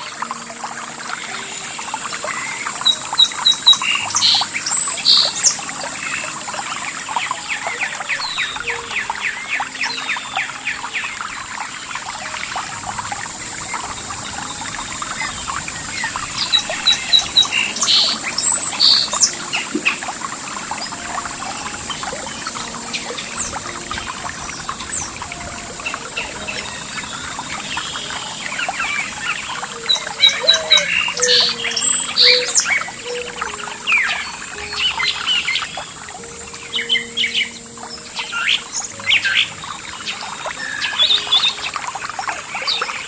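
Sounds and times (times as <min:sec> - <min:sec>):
songbirds chirping: 0:00.0 - 0:43.0
trickling water: 0:00.0 - 0:43.0.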